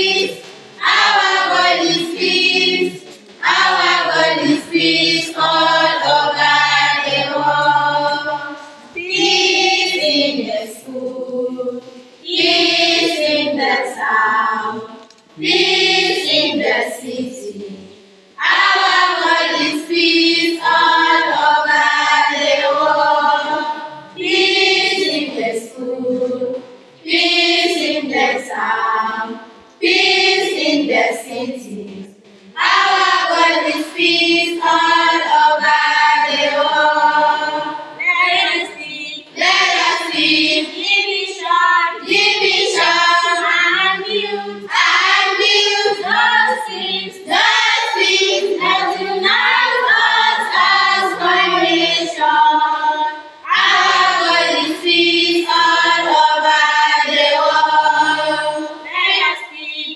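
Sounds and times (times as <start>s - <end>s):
girls choir singing: 0.0s - 59.9s.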